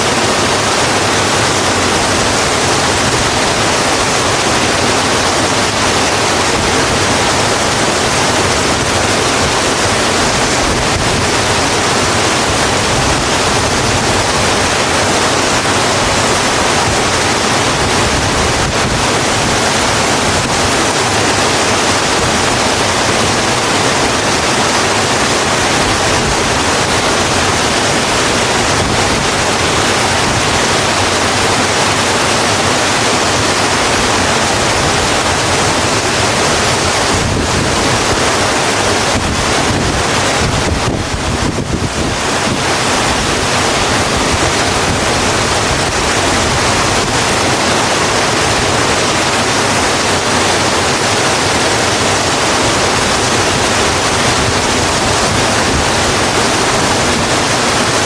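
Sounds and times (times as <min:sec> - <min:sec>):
rain falling on a road: 0:00.1 - 0:58.0.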